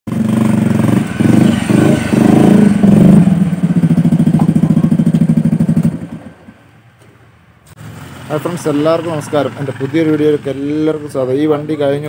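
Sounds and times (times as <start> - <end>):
motorcycle engine revving and idling: 0.1 - 12.0.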